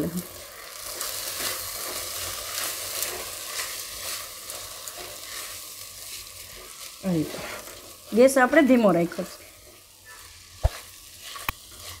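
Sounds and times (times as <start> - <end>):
rice and dal sizzling in ghee: 0.0 - 12.0.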